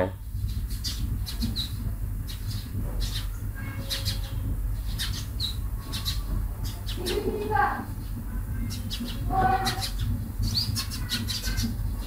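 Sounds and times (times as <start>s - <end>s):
steady low hum: 0.0s - 12.0s
high bird chirps: 0.7s - 11.8s.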